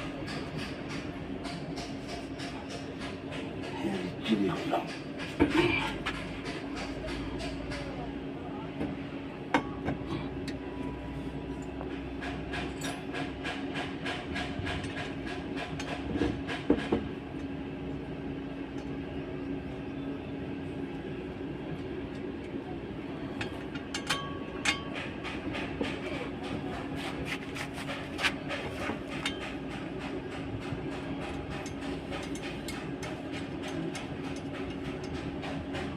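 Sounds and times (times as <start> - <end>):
mechanical hum: 0.0 - 35.9.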